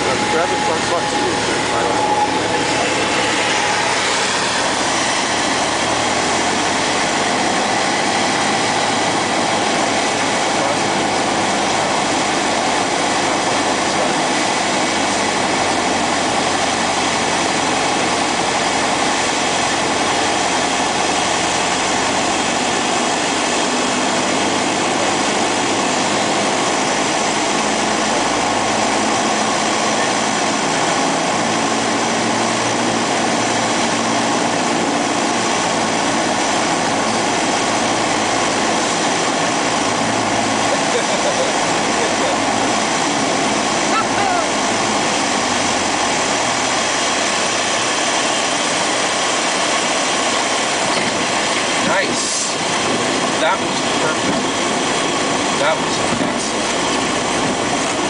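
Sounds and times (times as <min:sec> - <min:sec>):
airflow noise: 0:00.0 - 0:58.0
airplane engine and propeller: 0:00.0 - 0:58.0.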